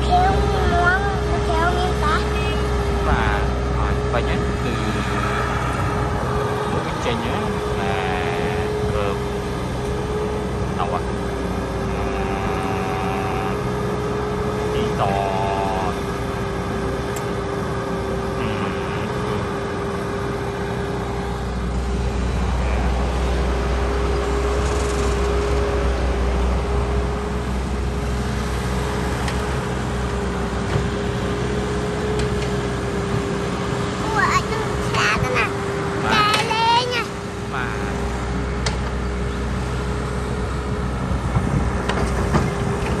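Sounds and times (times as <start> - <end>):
excavator diesel engine rumble: 0.0 - 43.0
hydraulic whine: 0.0 - 43.0.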